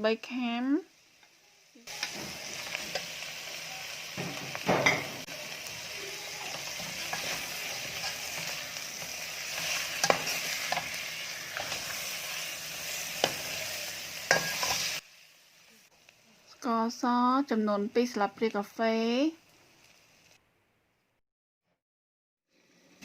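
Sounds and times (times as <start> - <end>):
food sizzling in hot oil: 0.0 - 20.4.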